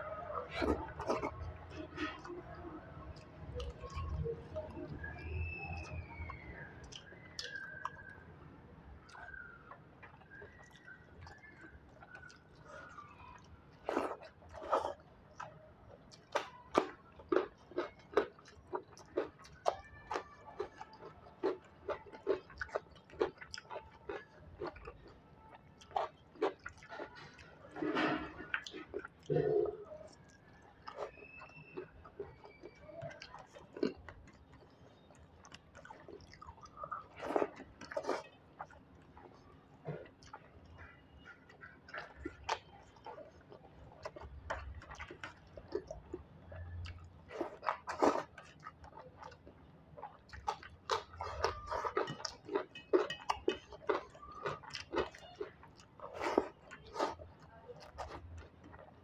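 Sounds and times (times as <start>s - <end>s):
person chewing food: 0.0s - 8.2s, 9.0s - 59.0s.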